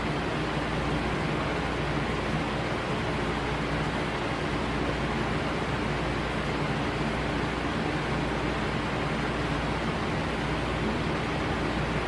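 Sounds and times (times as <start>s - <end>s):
white noise hiss: 0.0s - 12.0s.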